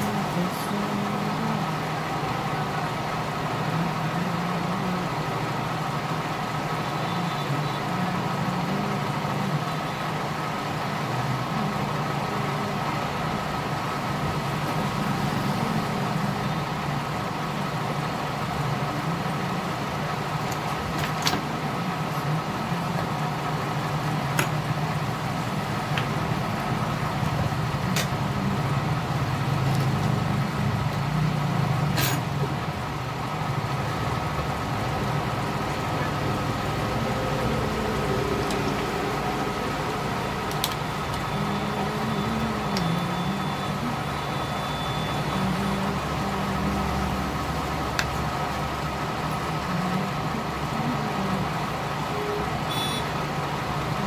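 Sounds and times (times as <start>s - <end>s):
low mechanical drone: 0.0s - 54.0s.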